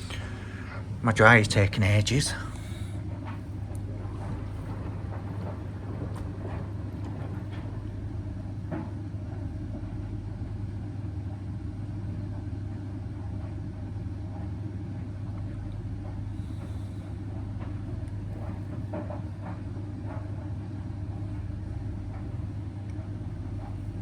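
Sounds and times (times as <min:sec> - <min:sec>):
laundry appliances humming: 0:00.0 - 0:24.0.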